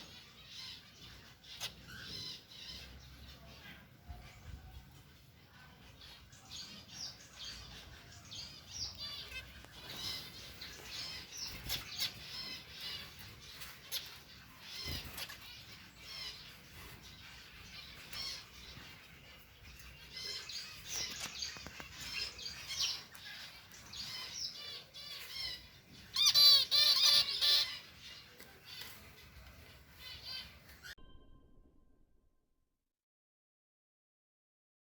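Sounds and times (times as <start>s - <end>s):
finches chirping: 0.0s - 4.6s, 5.2s - 30.9s.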